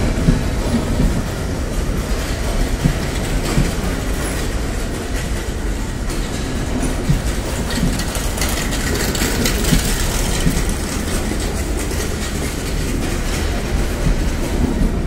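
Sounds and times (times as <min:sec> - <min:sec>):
train rumbling past: 0:00.0 - 0:15.0
wheel clacks over rail joints: 0:00.0 - 0:15.0.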